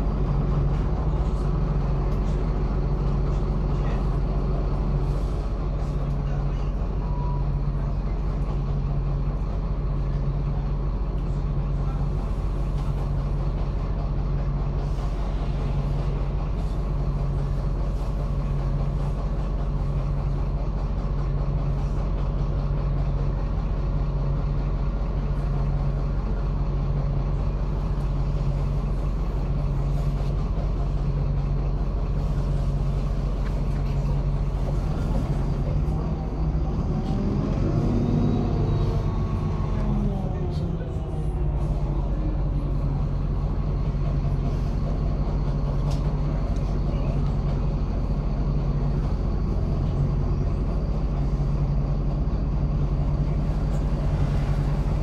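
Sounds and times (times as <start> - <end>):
diesel bus engine running: 0.0 - 55.0.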